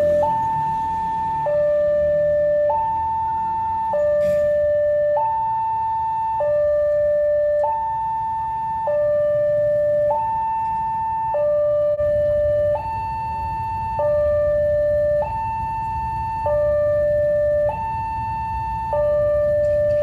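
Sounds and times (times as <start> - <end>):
idling road traffic rumble: 0.0 - 20.0
two-tone crossing alarm: 0.0 - 20.0.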